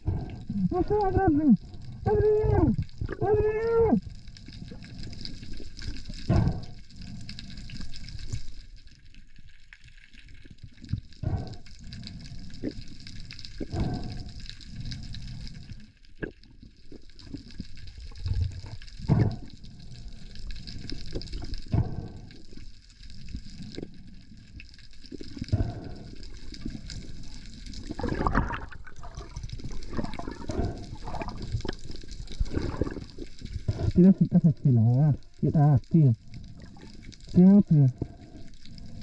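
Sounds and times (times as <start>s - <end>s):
water sloshing and gurgling: 0.0s - 39.0s.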